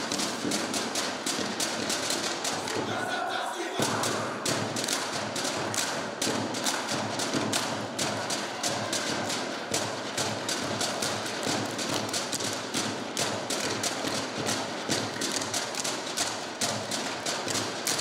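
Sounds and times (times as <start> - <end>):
people slapping bodies and clapping: 0.0 - 18.0.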